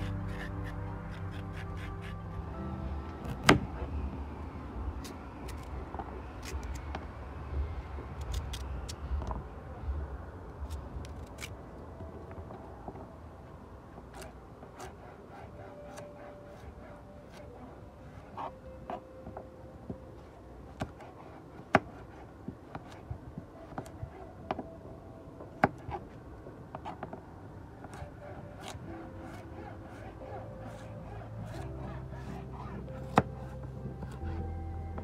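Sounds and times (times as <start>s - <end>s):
low steady background: 0.0s - 35.0s.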